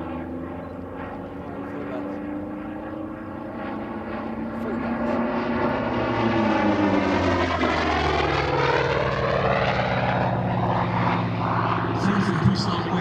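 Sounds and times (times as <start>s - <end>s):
propeller plane radial engine: 0.0s - 13.0s.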